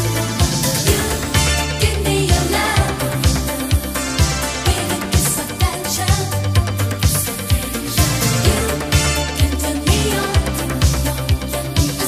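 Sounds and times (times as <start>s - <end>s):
disco dance track: 0.0s - 12.0s
steady kick drum: 0.0s - 12.0s
synth bass: 0.0s - 12.0s
synthesizer chords: 0.0s - 12.0s.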